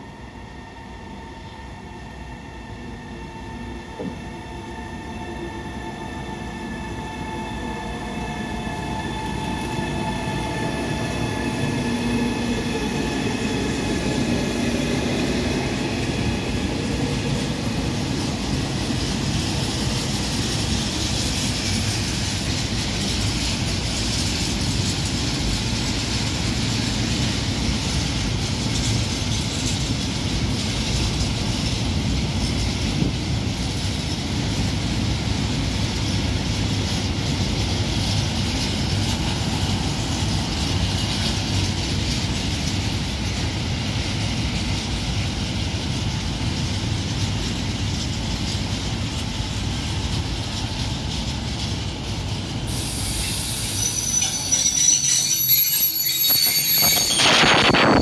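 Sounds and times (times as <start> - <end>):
electric locomotive whining hum: 0.0 - 58.0.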